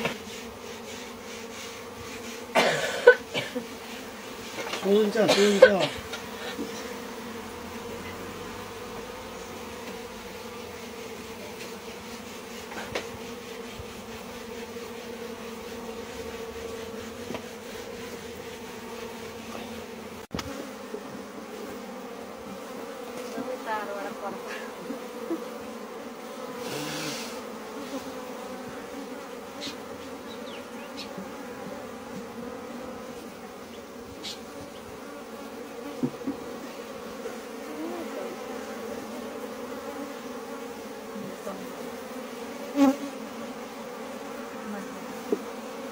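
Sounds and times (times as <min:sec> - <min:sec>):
bees humming: 0:00.0 - 0:45.9.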